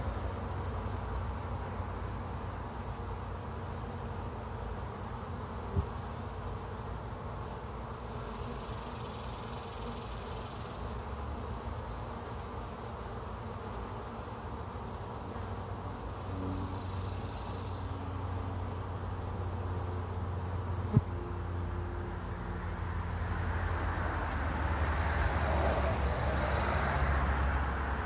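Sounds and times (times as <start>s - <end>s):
faint high hiss: 0.0s - 28.0s
honey bees buzzing: 0.0s - 28.0s.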